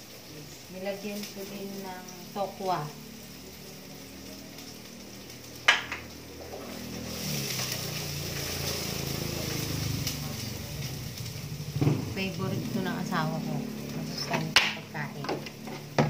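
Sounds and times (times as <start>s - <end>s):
tofu sizzling in a pot: 0.0s - 16.0s.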